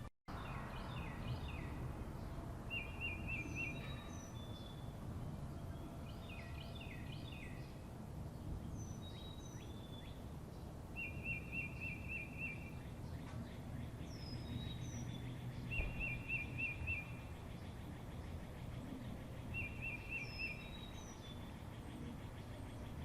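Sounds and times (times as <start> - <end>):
songbirds chirping and trilling: 0.3 - 23.0.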